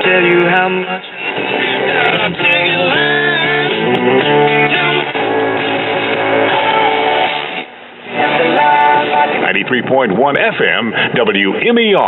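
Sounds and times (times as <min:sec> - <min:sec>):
guitar music from radio speaker: 0:00.0 - 0:11.6
radio tuning across band: 0:00.9 - 0:12.0.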